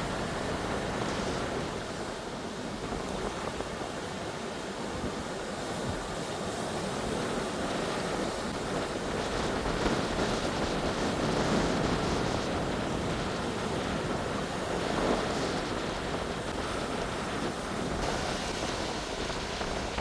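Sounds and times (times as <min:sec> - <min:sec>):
ocean waves washing: 0:00.0 - 0:20.0
wind on microphone: 0:00.0 - 0:20.0.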